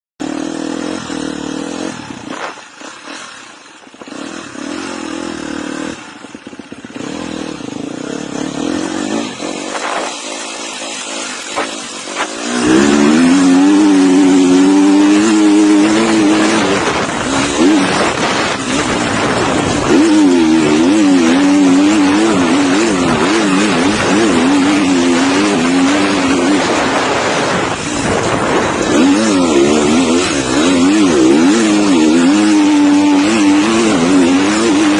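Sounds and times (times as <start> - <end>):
dirt bike engine revving: 0.2 - 34.9
steady rushing noise: 0.4 - 34.9.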